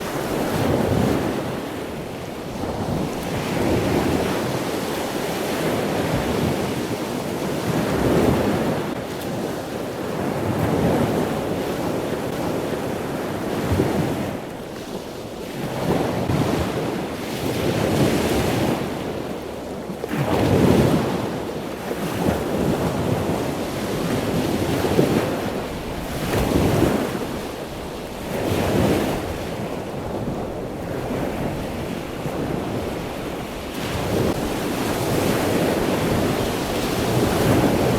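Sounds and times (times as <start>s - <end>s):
small waves washing ashore: 0.0s - 37.9s
wind buffeting microphone: 0.0s - 37.9s.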